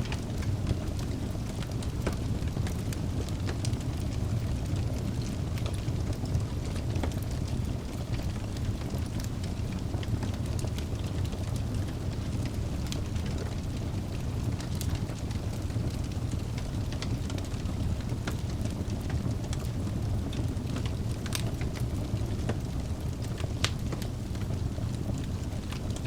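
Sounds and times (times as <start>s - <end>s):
burning logs crackling and popping: 0.0s - 26.0s
fire roaring: 0.0s - 26.0s.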